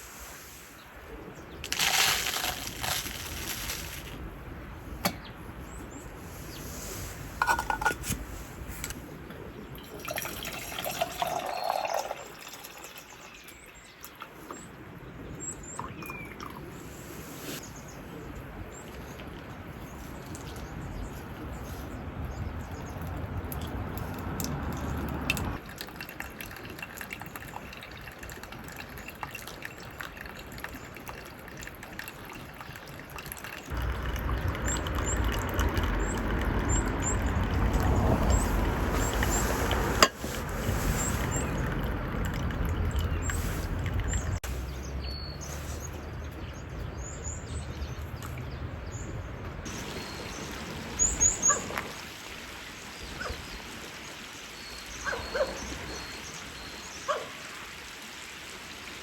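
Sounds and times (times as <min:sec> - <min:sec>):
water pouring and trickling: 0:01.5 - 0:04.3, 0:06.2 - 0:09.0, 0:09.7 - 0:14.8, 0:15.5 - 0:17.6, 0:18.5 - 0:59.0.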